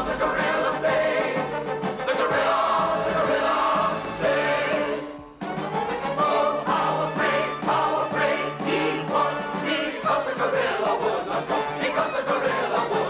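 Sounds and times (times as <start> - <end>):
mixed choir singing in harmony: 0.0 - 13.0.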